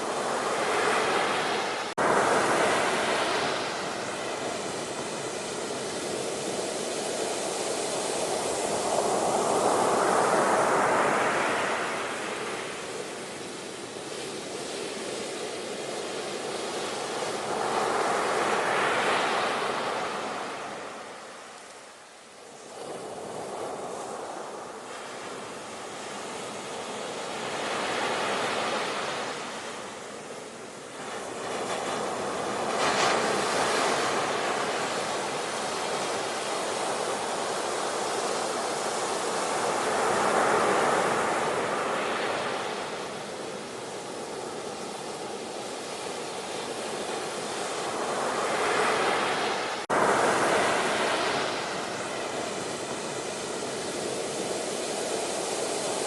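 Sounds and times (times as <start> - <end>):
ocean waves washing in: 0.0 - 56.0.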